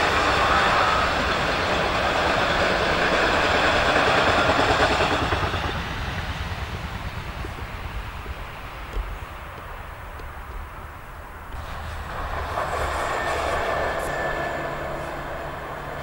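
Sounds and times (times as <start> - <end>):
freight wagons rolling on rails: 0.0 - 16.0.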